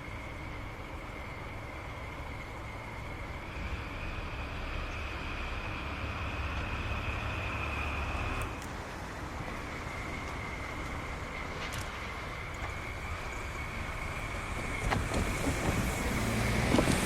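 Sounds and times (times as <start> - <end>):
vehicle engine running with whine: 0.0 - 17.0.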